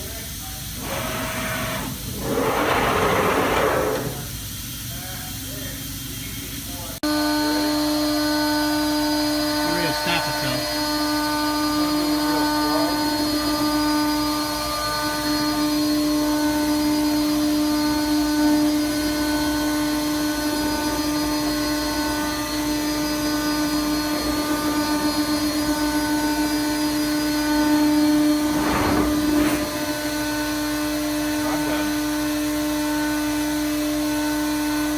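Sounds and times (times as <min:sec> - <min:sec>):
cnc router high-pitched whine: 0:00.4 - 0:02.5, 0:07.0 - 0:28.6, 0:29.4 - 0:34.9.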